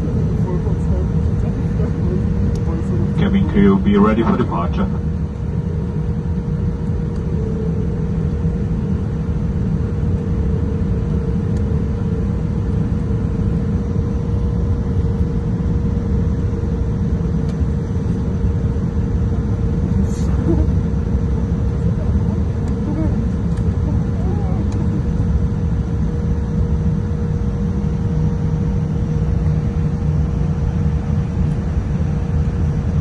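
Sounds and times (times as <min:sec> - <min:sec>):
airliner cabin rumble: 0:00.0 - 0:33.0
jet engine whine: 0:00.0 - 0:33.0.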